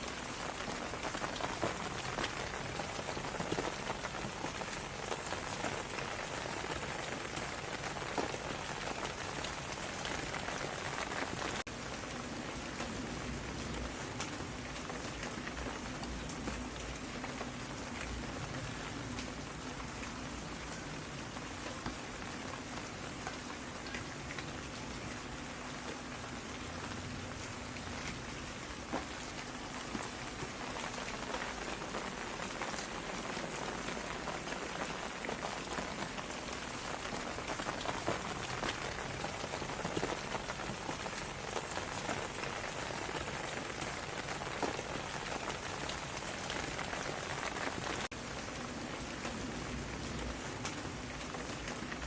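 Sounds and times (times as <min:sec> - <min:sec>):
heavier raindrops: 0:00.0 - 0:52.0
rain falling: 0:00.0 - 0:52.0.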